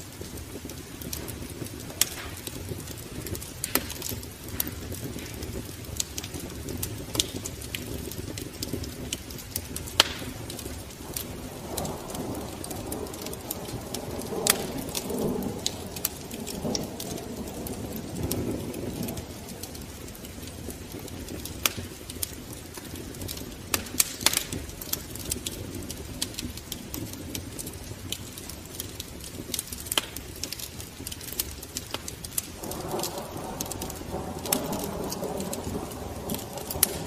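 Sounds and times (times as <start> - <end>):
flames hissing and rumbling: 0.0 - 37.0
wood fire crackling and popping: 0.0 - 37.0.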